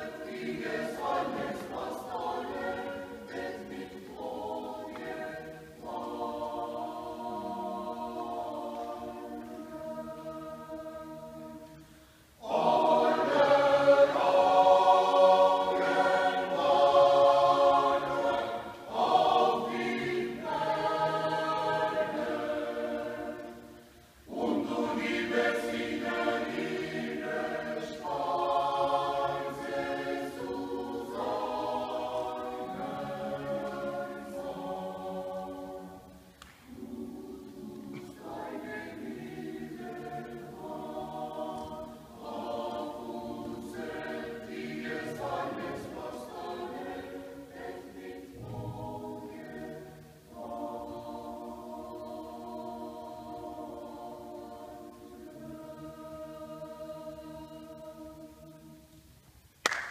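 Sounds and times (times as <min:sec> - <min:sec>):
mixed choir singing a cappella: 0:00.0 - 0:59.6.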